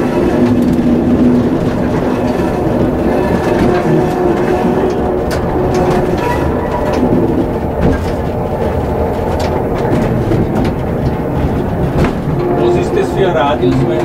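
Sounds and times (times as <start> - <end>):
tram wheels rumbling on rails: 0.0 - 14.0.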